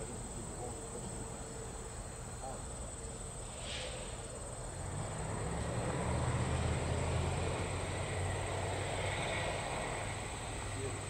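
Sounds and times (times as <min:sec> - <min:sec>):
crickets buzzing: 0:00.0 - 0:11.0.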